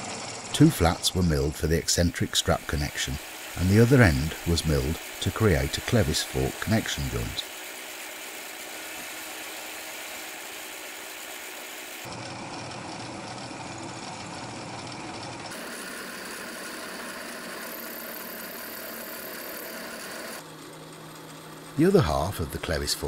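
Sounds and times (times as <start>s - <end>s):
milling machine cutting metal: 0.0s - 20.4s.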